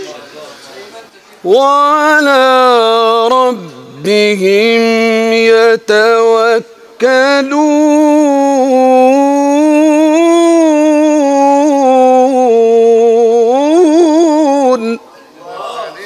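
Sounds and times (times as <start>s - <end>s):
man reciting melodically: 1.4s - 16.0s.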